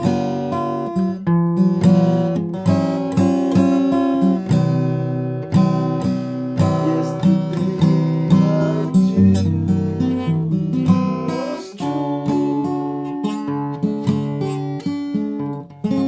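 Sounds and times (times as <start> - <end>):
acoustic guitar strummed: 0.0 - 16.0.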